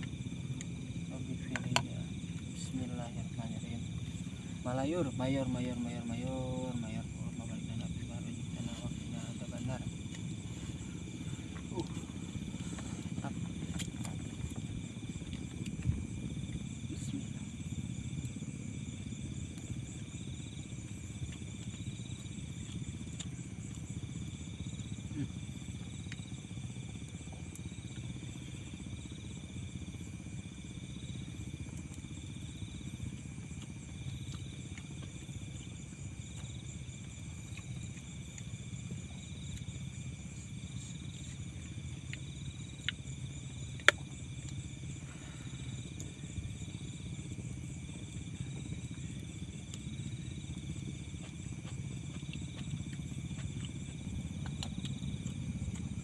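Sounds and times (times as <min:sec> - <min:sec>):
insects chirping: 0:00.0 - 0:56.0
low steady hum: 0:00.0 - 0:56.0.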